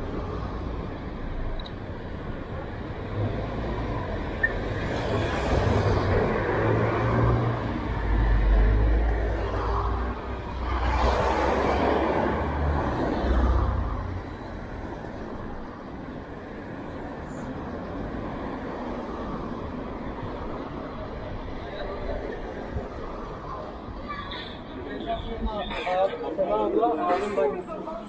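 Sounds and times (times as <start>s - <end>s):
traffic hum: 0.0s - 28.0s.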